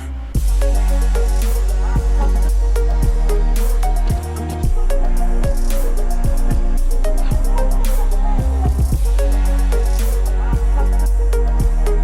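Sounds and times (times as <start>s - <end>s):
electronic music with bass and drums: 0.0s - 12.0s.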